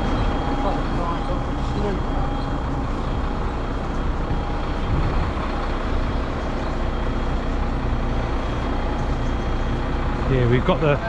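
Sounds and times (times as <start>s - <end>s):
diesel truck engine running: 0.0s - 11.0s
thin steady whine: 0.0s - 11.0s.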